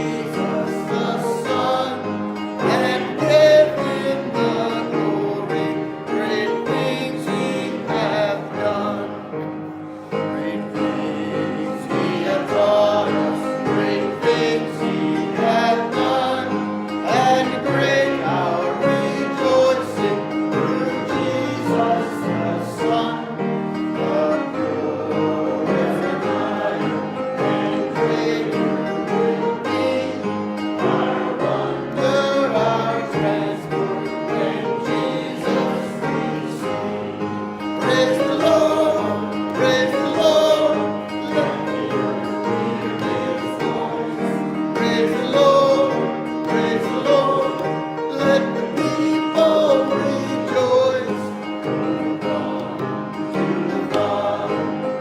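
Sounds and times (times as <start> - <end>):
choir singing gospel: 0.0 - 55.0
instrumental accompaniment: 0.0 - 55.0.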